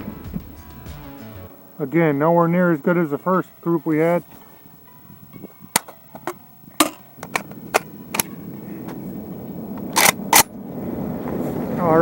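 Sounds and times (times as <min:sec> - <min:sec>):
steady low rush: 0:00.0 - 0:12.0.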